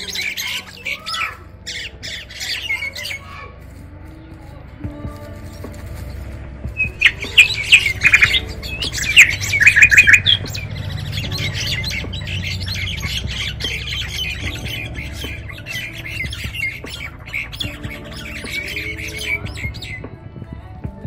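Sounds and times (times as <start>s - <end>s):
rapid bird chatter: 0.0s - 20.2s
birds squawking and screeching: 0.0s - 20.3s.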